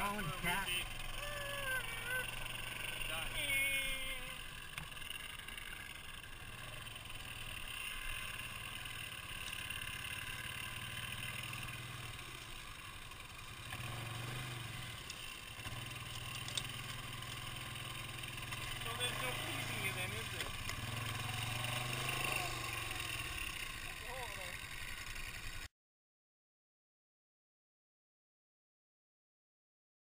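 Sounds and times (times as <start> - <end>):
atv engine running: 0.0 - 25.7.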